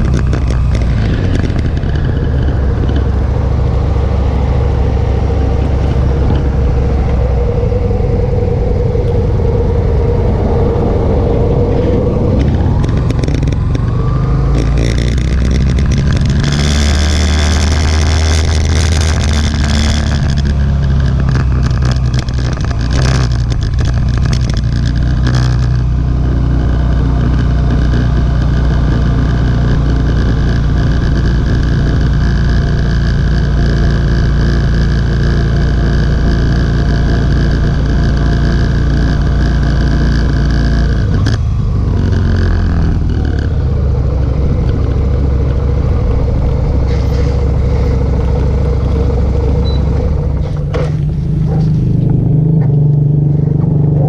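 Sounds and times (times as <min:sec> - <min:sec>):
motorcycle engine running: 0:00.0 - 0:54.0
wind noise over microphone: 0:00.0 - 0:54.0.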